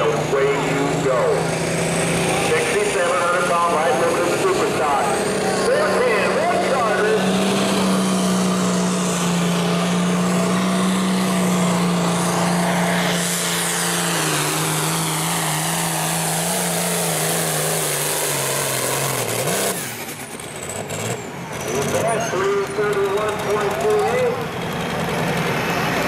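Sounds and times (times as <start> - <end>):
tractor diesel engine at full throttle: 0.0 - 26.0.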